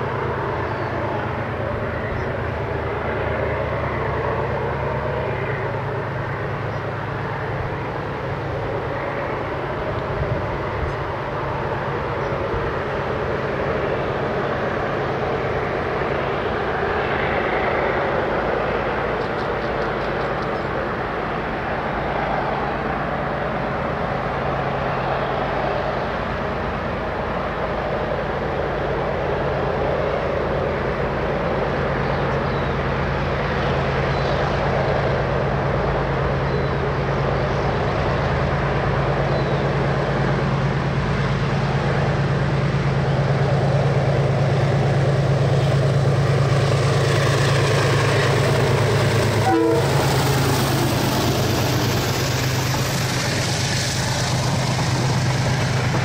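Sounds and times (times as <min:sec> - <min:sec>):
diesel locomotive engine droning: 0:00.0 - 0:56.0.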